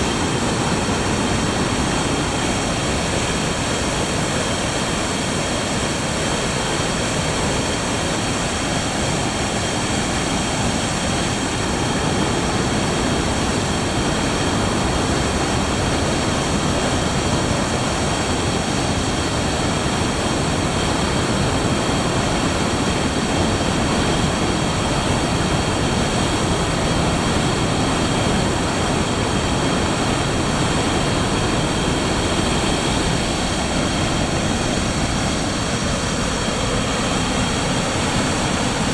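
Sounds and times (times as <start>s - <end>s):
rush of water through dam spillway: 0.0s - 38.9s.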